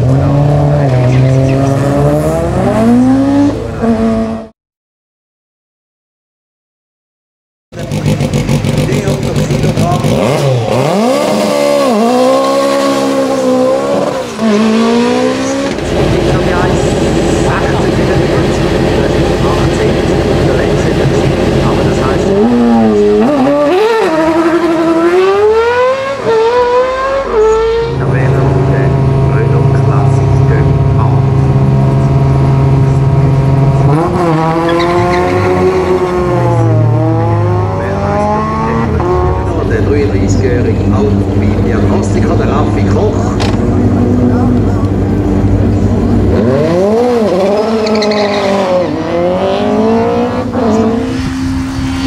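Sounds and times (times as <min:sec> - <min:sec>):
race car engine revving high: 0:00.0 - 0:04.5, 0:07.8 - 0:52.0.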